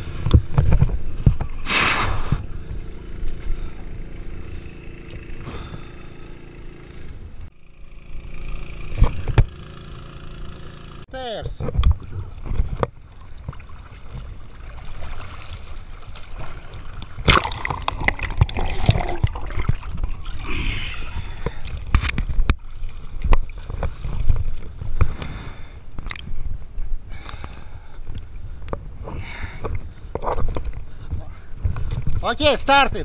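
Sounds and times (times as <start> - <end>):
water sloshing and gurgling: 0.0 - 6.4, 11.6 - 32.5
steady low rumble: 0.0 - 9.5, 11.0 - 33.0.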